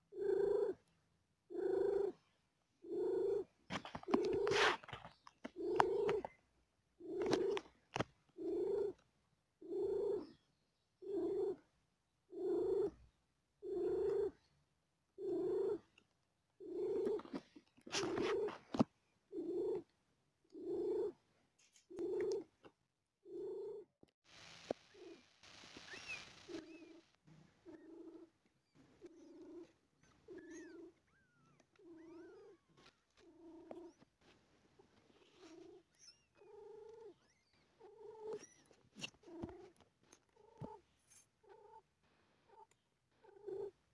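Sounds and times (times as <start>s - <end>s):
cat purring: 0.0s - 0.8s, 1.5s - 6.4s, 7.0s - 9.0s, 9.6s - 10.4s, 11.0s - 11.7s, 12.3s - 14.5s, 15.2s - 16.0s, 16.6s - 19.9s, 20.5s - 21.2s, 21.9s - 23.9s, 24.6s - 43.9s.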